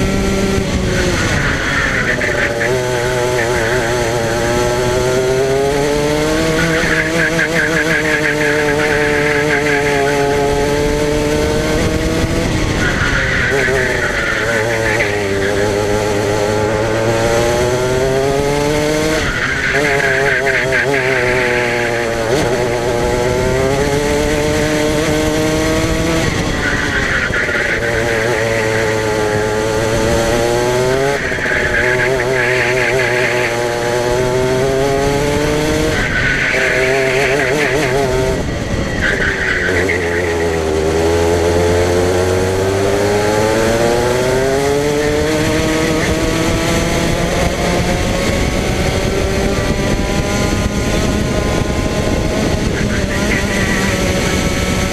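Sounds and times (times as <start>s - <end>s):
racing kart engine: 0.0s - 54.9s.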